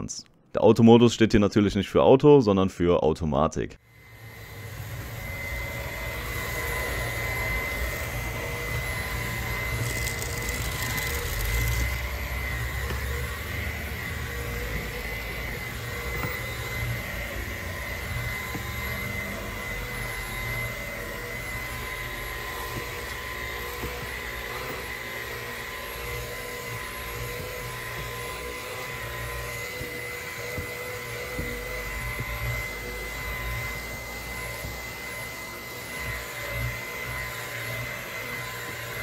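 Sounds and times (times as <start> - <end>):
handheld vacuum cleaner running: 3.8 - 39.0.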